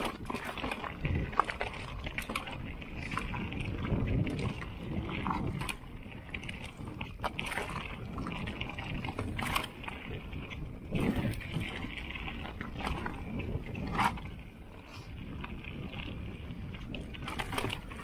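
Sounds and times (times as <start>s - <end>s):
bike knocking and rattling: 0.0s - 14.5s, 15.3s - 18.0s
bike tyres rumbling over stones: 0.0s - 18.0s.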